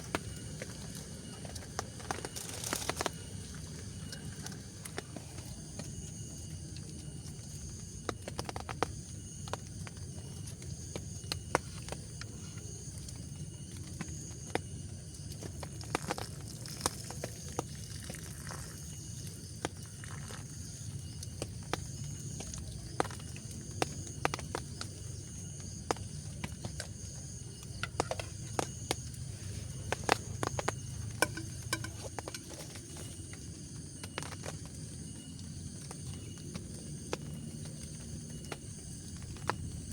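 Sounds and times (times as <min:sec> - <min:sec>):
insects chirring: 0:00.0 - 0:39.9
raindrops pattering: 0:00.0 - 0:39.9.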